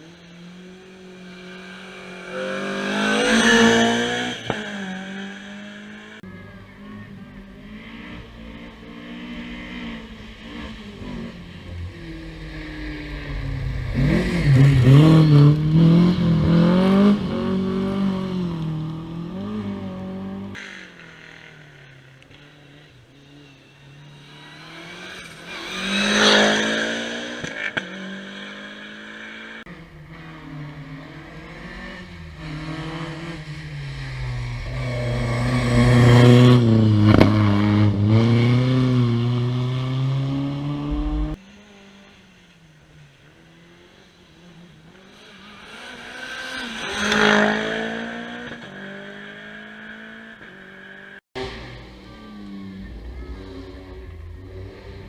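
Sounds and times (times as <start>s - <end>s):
rally car engines revving: 0.0s - 55.0s
car passing by: 7.7s - 20.5s, 23.4s - 55.0s.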